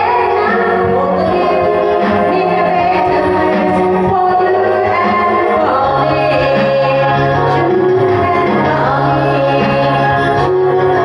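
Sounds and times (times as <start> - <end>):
backing music: 0.0 - 11.0
woman singing into microphone: 0.0 - 11.0.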